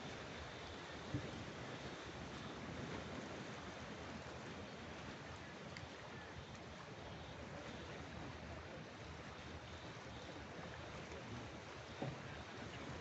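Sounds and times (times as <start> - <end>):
gentle sea waves: 0.0 - 13.0.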